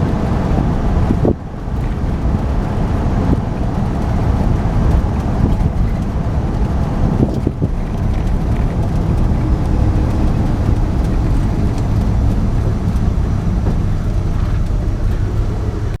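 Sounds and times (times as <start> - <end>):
road and wind noise: 0.0 - 16.0
truck engine droning: 0.0 - 16.0.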